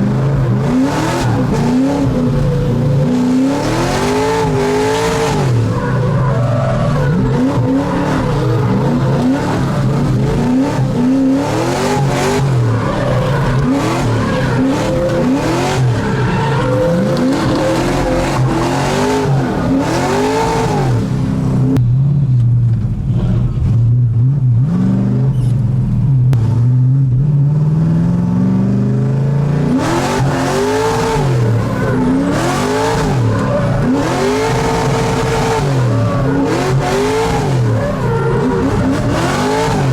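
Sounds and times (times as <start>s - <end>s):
car engine revving: 0.0s - 39.9s
tyre noise and squeal: 0.6s - 21.8s, 24.8s - 26.0s, 29.7s - 39.9s.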